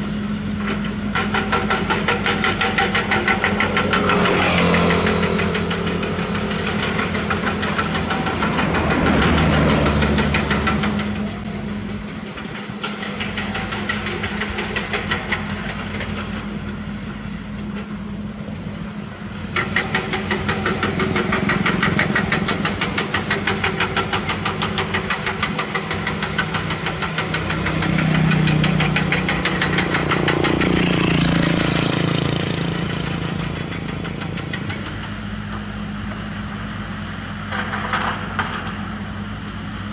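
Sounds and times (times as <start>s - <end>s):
bulldozer diesel clattering: 0.0s - 39.9s
excavator diesel engines under load: 0.0s - 39.9s.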